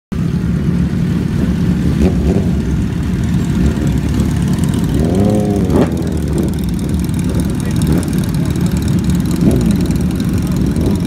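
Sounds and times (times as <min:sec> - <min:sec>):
motorcycle engines idling: 0:00.2 - 0:11.0.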